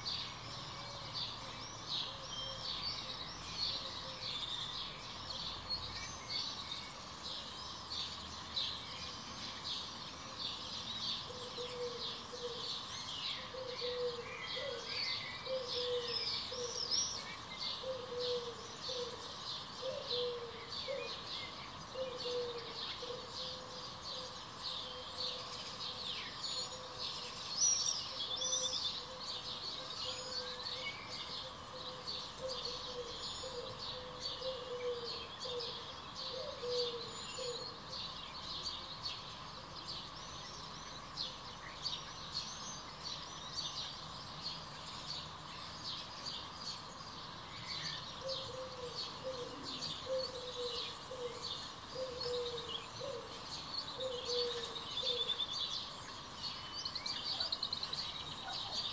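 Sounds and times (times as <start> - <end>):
lower repeated bird call: 0.0 - 45.2, 45.9 - 58.9
faint steady hum: 0.0 - 58.9
small birds chirping: 0.0 - 58.9.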